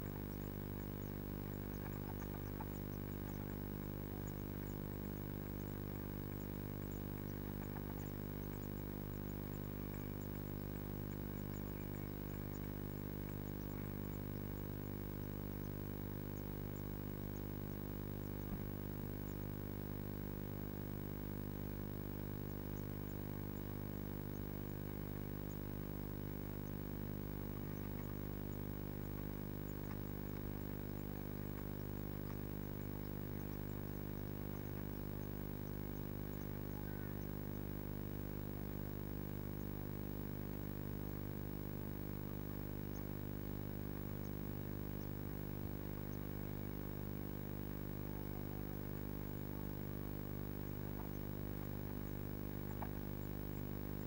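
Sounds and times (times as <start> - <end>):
faint scattered ticks: 0.0 - 54.0
steady electrical hum: 0.0 - 54.0.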